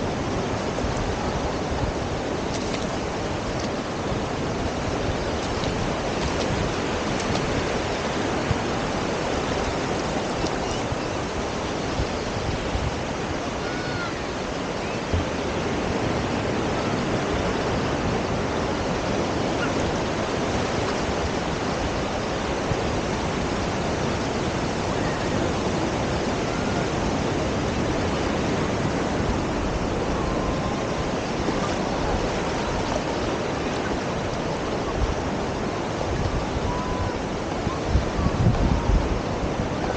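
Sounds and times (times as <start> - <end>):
ocean surf washing on beach: 0.0 - 39.9
wind: 0.0 - 39.9.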